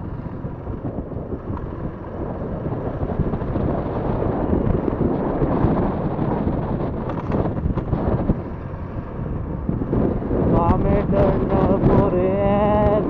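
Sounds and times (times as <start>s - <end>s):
motorcycle engine rumble: 0.0s - 13.0s
wind buffeting microphone: 0.0s - 13.0s.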